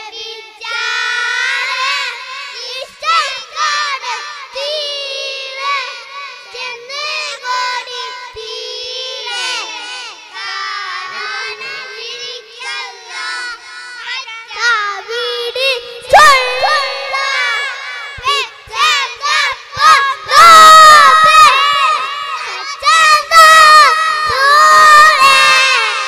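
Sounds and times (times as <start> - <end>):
children singing: 0.0 - 26.0
loud shout: 0.6 - 26.0.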